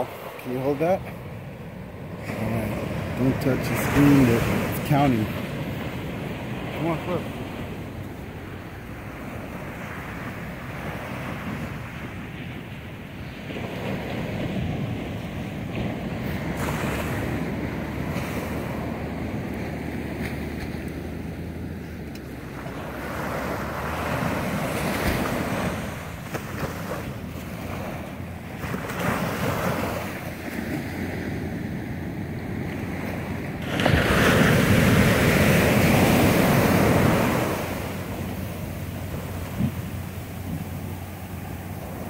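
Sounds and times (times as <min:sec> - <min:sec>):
waves washing up a sandy beach: 0:00.0 - 0:42.0
wind buffeting microphone: 0:00.0 - 0:42.0.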